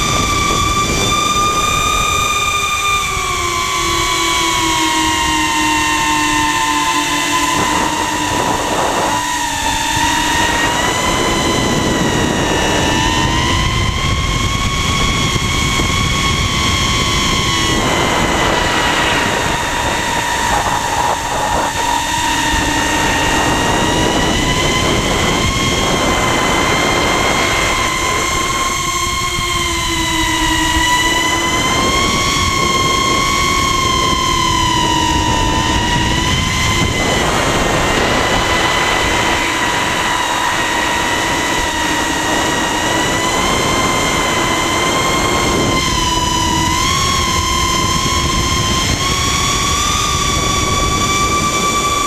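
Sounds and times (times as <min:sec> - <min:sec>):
drone motors whining: 0:00.0 - 0:52.0
rushing wind: 0:00.0 - 0:52.0.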